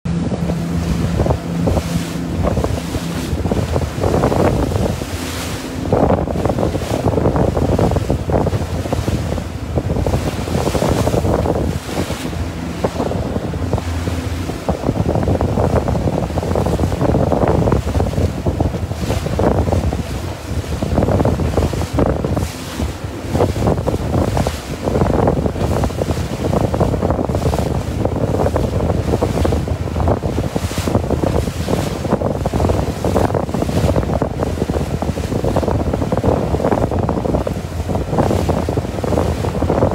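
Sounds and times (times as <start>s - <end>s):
outboard motor drone: 0.0s - 39.9s
water rushing and splashing: 0.0s - 39.9s
wind buffeting microphone: 0.1s - 39.9s.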